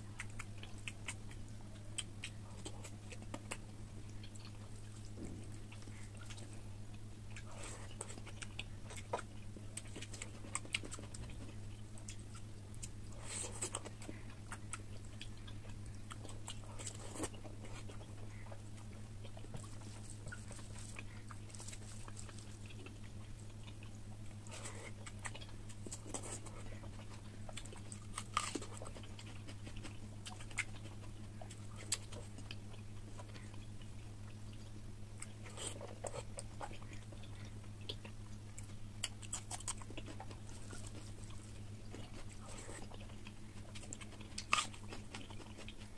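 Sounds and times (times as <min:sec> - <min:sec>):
chewing and wet mouth smacks: 0:00.0 - 0:45.9
steady low hum: 0:00.0 - 0:45.9.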